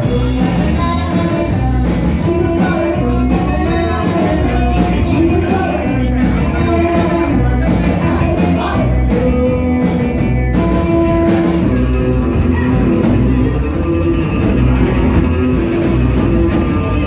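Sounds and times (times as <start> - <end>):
drum kit with cymbals and snare: 0.0 - 17.0
electric guitars: 0.0 - 17.0.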